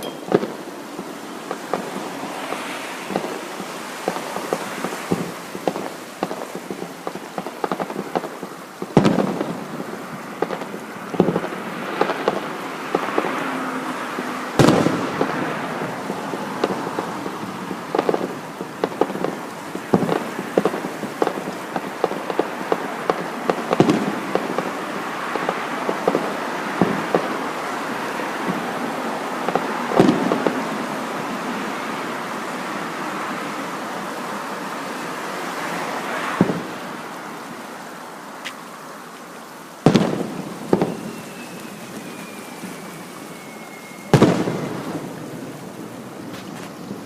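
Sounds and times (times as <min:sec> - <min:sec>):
fireworks bangs: 0:00.0 - 0:34.7, 0:35.6 - 0:37.1, 0:39.8 - 0:47.0
fireworks crackling and popping: 0:00.0 - 0:47.0.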